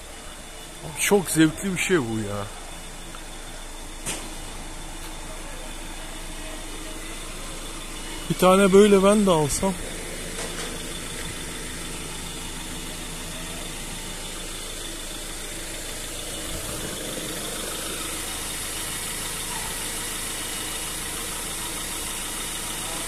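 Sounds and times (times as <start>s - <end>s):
construction machine engine running: 0.0s - 23.0s.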